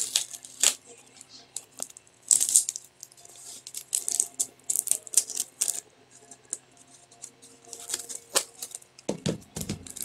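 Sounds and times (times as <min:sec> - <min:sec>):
packing tape crinkling as peeled: 0:00.0 - 0:10.0.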